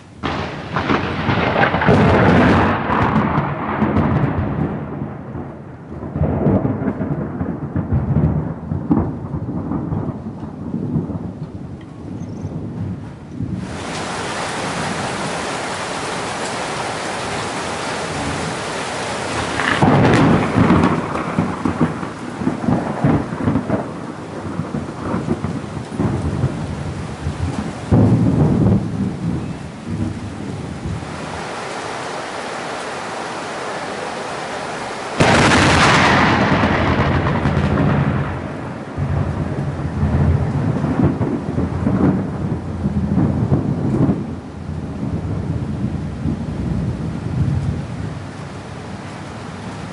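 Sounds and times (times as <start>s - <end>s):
thunder cracking and rumbling: 0.0s - 31.5s, 35.1s - 49.8s
heavy rain falling: 0.0s - 49.9s.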